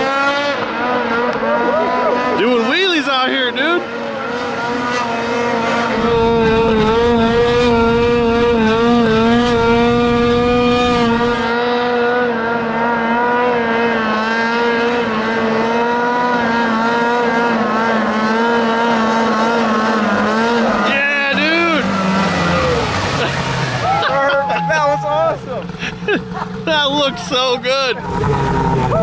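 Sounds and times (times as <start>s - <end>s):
snowmobile engine at high revs: 0.0s - 29.0s.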